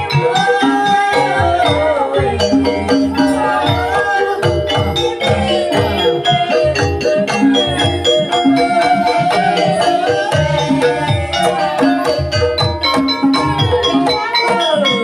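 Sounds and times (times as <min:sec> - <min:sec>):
hand drum: 0:00.0 - 0:15.0
wavering melodic line: 0:00.0 - 0:15.0.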